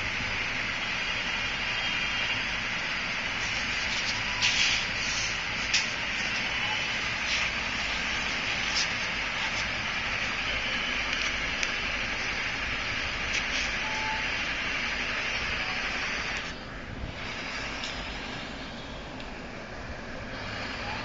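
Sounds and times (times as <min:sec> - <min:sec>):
steady fan hiss: 0:00.0 - 0:21.0.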